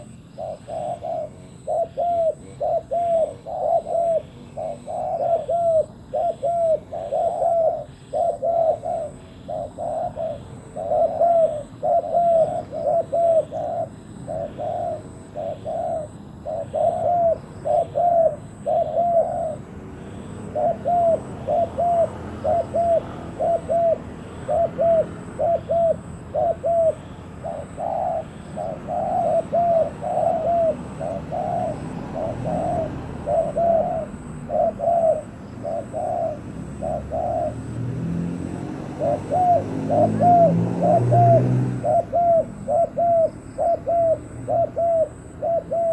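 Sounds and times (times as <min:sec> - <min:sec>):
doves cooing: 0:00.0 - 0:45.9.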